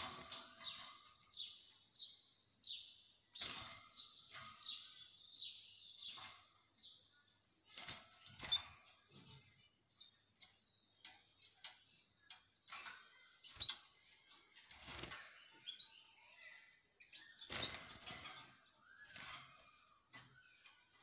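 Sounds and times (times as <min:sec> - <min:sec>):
birds rustling in cage: 0:00.0 - 0:02.0, 0:03.2 - 0:05.0, 0:06.0 - 0:16.1, 0:17.3 - 0:21.0
canaries chirping: 0:00.0 - 0:21.0.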